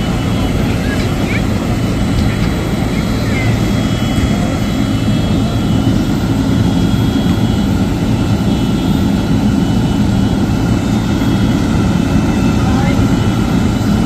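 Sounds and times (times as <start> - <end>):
loud engine drone: 0.0 - 14.0.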